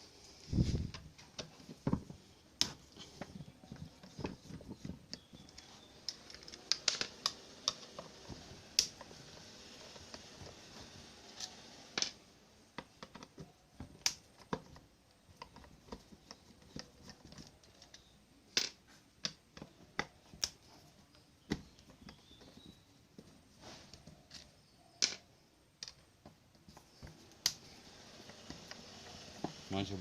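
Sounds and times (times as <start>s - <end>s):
small tools clicking and knocking: 0.9s - 10.6s, 12.8s - 23.3s, 24.0s - 29.7s.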